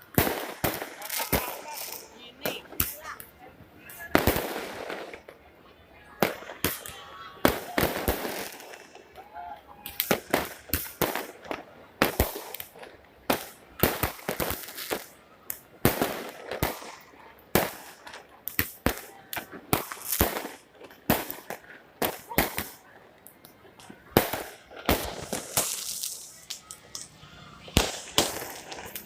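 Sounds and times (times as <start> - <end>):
fireworks banging: 0.0 - 9.2, 9.8 - 29.0.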